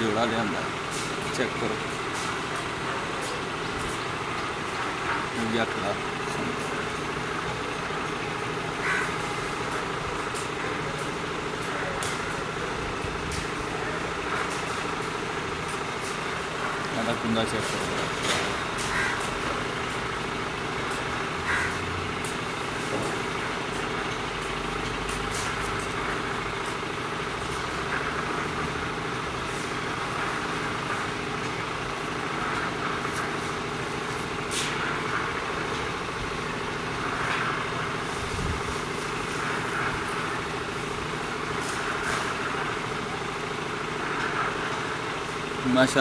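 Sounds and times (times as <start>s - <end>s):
engine droning: 0.0s - 46.0s.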